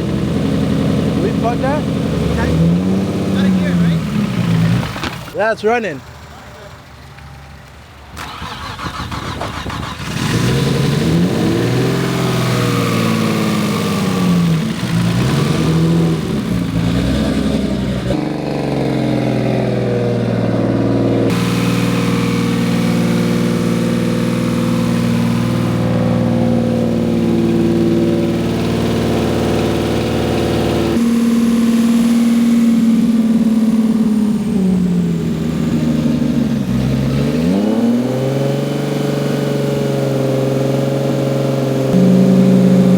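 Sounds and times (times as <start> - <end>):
car engine revving and idling: 0.0 - 5.4, 8.2 - 42.9.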